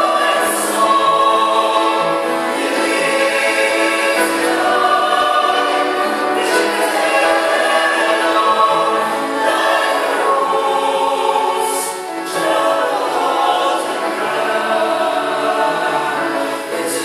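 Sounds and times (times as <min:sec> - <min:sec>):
mixed choir singing: 0:00.0 - 0:17.0.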